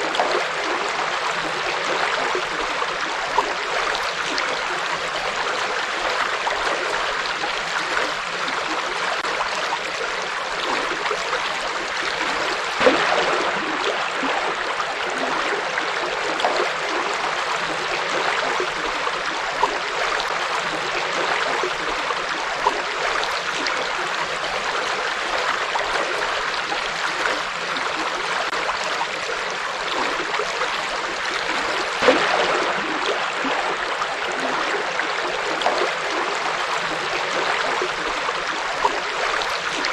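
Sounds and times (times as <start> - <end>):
water splashes: 0.0 - 39.9.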